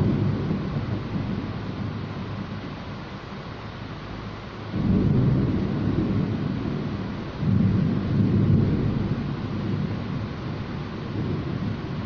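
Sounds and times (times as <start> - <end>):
low thunder rumbling: 0.0 - 3.5, 4.6 - 12.0.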